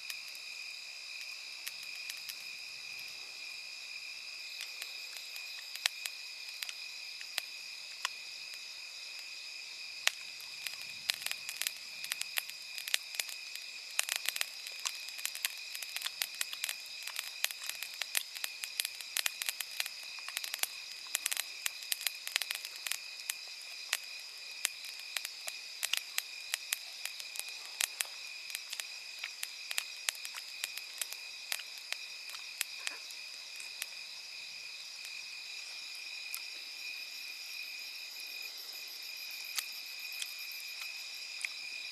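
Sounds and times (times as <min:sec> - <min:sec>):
campfire crackling and popping: 0:00.0 - 0:35.6, 0:39.0 - 0:41.7
night insects chirring: 0:00.0 - 0:41.9.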